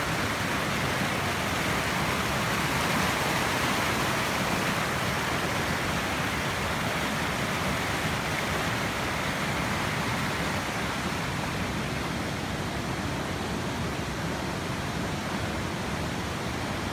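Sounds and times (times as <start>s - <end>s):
waterfall rushing and splashing: 0.0s - 16.9s.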